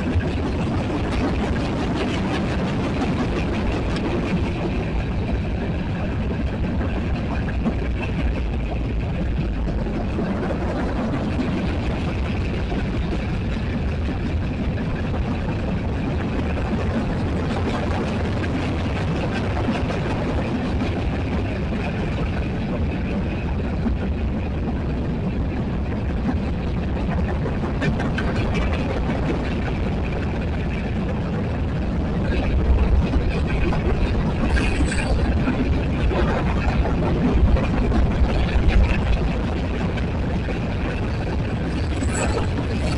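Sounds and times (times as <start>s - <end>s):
freight cars rumbling on rails: 0.0s - 42.9s.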